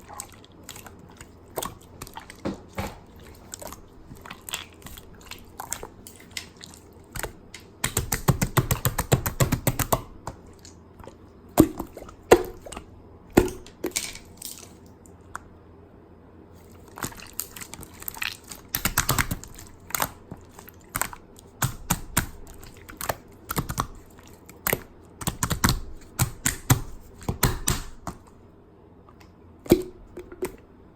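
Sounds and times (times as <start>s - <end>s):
hands squishing slime: 0.0s - 15.0s, 16.6s - 28.3s.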